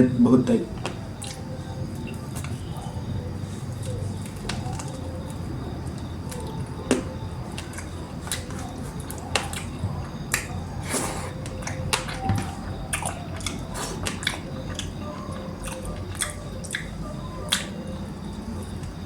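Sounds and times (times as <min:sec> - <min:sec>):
person chewing food: 0:00.7 - 0:17.8.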